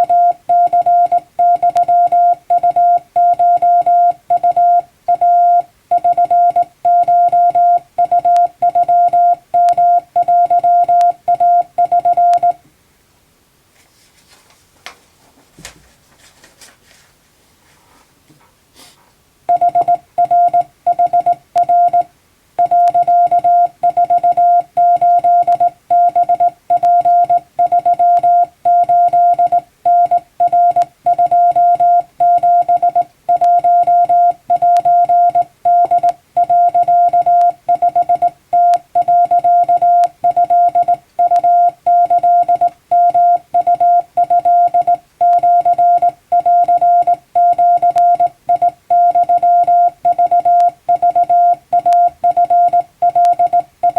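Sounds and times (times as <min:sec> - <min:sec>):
morse code beeps: 0:00.0 - 0:12.6, 0:19.5 - 0:53.9.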